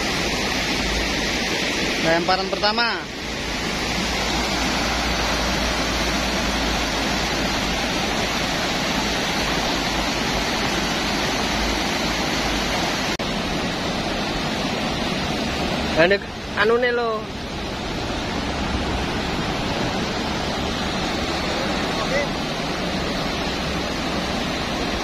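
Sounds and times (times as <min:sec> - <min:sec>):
river water rushing over weir: 0:00.0 - 0:25.0.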